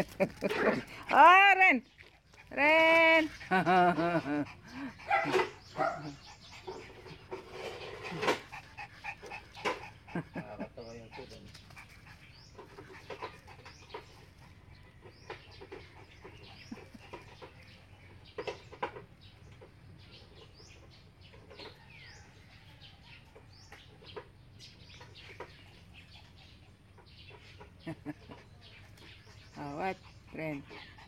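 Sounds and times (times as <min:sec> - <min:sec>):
faint bird chirps and clucking: 0:00.0 - 0:31.0.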